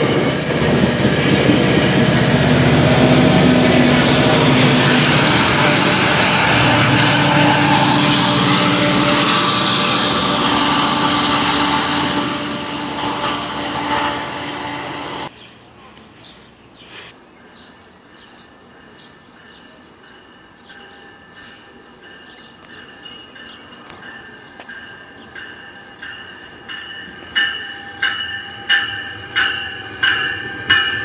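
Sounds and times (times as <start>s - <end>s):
diesel train passing at speed: 0.0s - 31.0s
distant train approaching: 0.0s - 31.0s.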